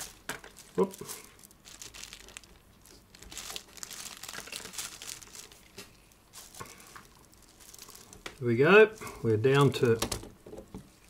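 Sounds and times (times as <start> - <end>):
gloved hands crinkling and rustling: 0.0 - 11.0.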